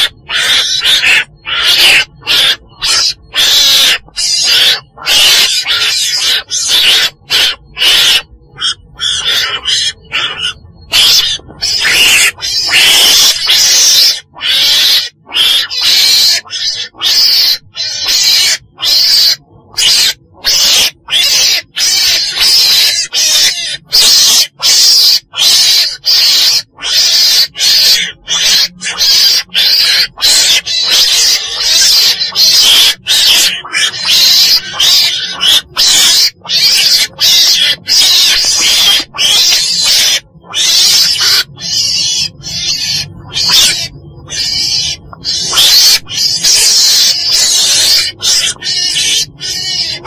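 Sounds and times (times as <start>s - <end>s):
weasel harsh hissing calls: 0.0s - 50.0s.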